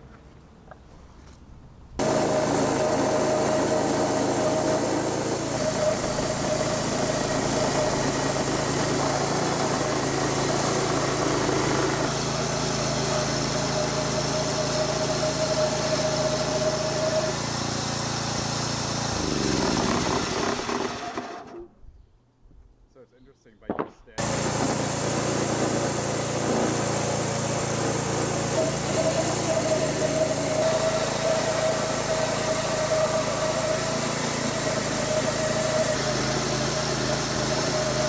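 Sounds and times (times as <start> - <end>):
band saw blade whining: 2.0 - 21.7, 24.2 - 38.0
gas engine running: 2.0 - 21.7, 24.2 - 38.0.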